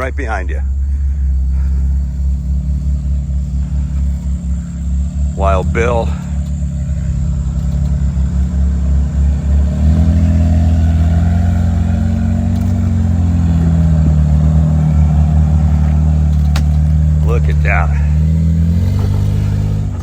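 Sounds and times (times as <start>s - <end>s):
off-road vehicle engine under load: 0.0s - 20.0s.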